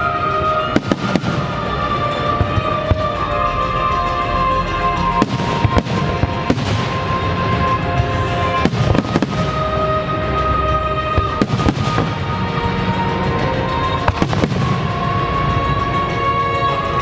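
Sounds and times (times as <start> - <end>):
music with long held notes: 0.0 - 17.0
fireworks bangs: 0.3 - 15.8.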